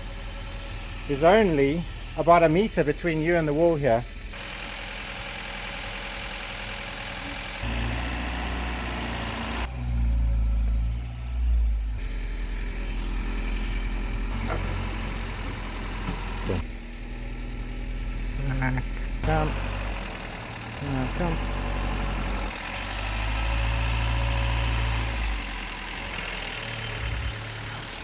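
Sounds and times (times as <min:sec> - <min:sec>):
van engine running: 0:00.0 - 0:28.0.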